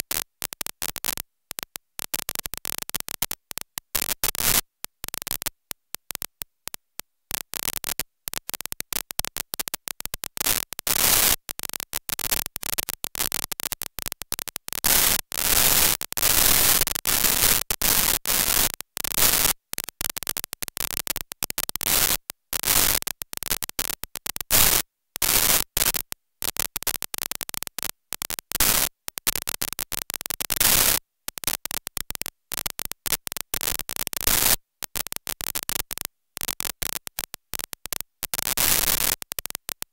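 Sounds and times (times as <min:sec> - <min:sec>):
harsh static hiss bursts: 0:02.1 - 0:05.5, 0:07.3 - 0:31.8, 0:32.5 - 0:39.9.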